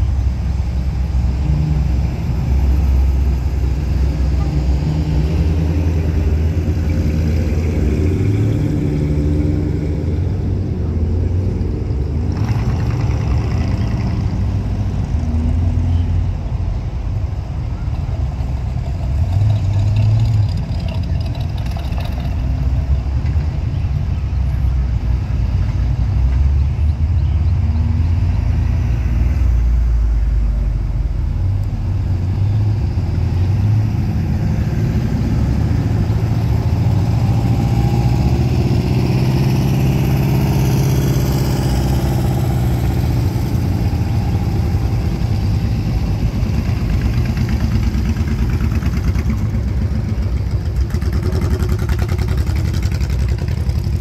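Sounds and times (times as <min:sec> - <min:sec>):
vehicles passing slowly: 0:00.0 - 0:54.0.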